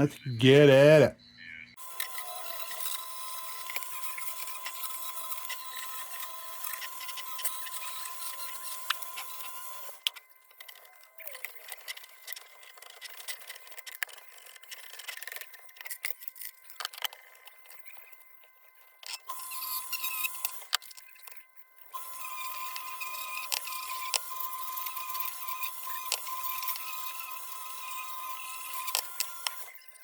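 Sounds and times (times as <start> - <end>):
rotary tool whining: 1.7 - 30.0.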